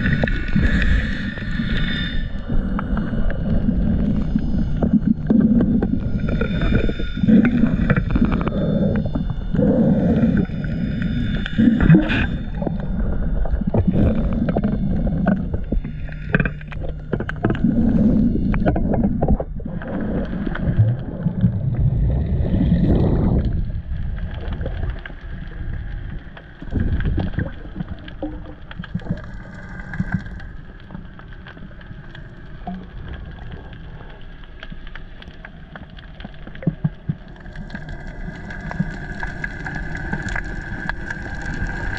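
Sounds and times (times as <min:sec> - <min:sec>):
underwater clicks and crackles: 0:00.0 - 0:41.9
underwater water noise: 0:00.0 - 0:41.9.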